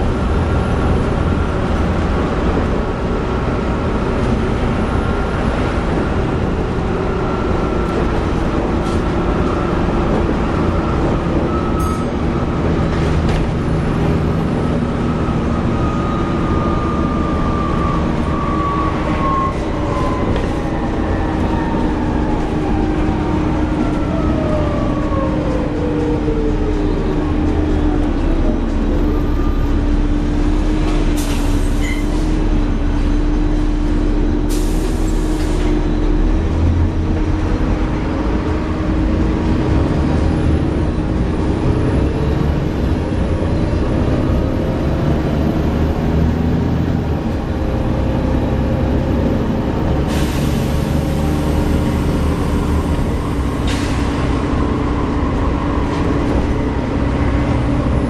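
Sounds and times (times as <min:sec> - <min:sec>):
bus engine drone: 0:00.0 - 0:58.0.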